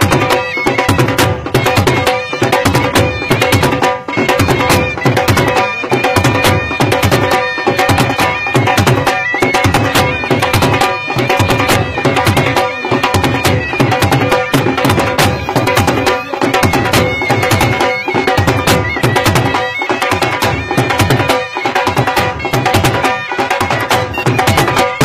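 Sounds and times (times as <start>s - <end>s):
dhol drums beating fast rhythm: 0.0s - 25.0s
wind instrument holding notes: 0.0s - 25.0s.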